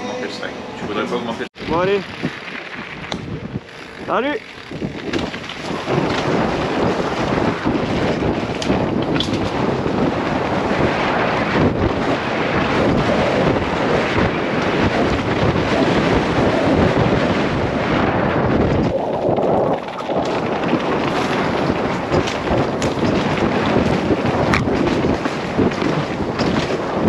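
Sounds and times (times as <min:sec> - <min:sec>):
wind rushing over microphone: 0:00.0 - 0:27.0
bike rattling over dirt trail: 0:01.6 - 0:27.0.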